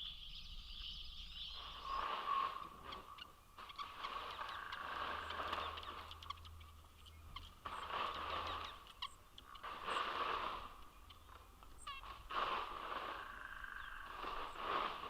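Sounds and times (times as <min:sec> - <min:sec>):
birds chirping: 0:00.0 - 0:15.0
longer noisy bird calls: 0:00.0 - 0:15.0.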